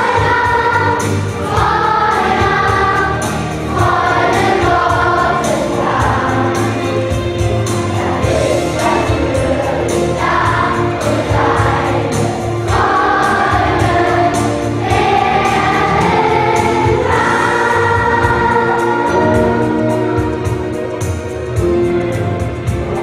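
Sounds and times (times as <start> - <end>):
children's choir singing: 0.0 - 21.4, 22.6 - 23.0
accompaniment with bass and beat: 0.0 - 23.0.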